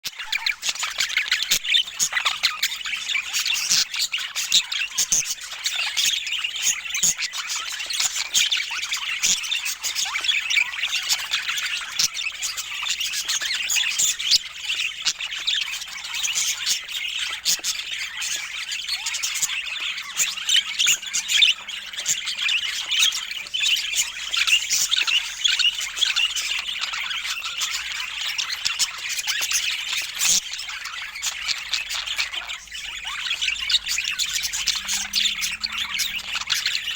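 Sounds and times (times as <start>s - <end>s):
budgerigars chattering and squawking: 0.1s - 36.9s.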